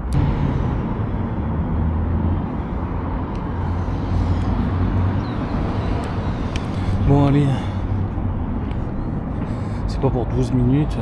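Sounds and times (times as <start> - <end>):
faint engine hum: 0.0 - 11.0
road traffic rumble: 0.0 - 11.0.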